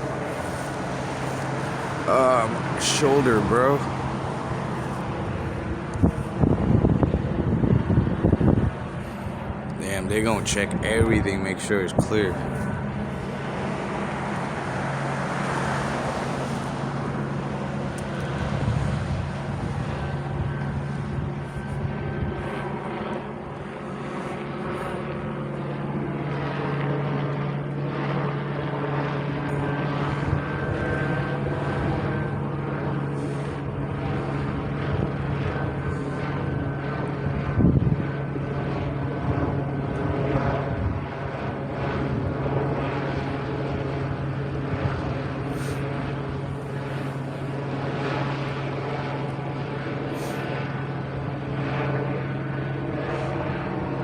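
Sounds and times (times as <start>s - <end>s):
helicopter engine drone: 0.0s - 54.0s.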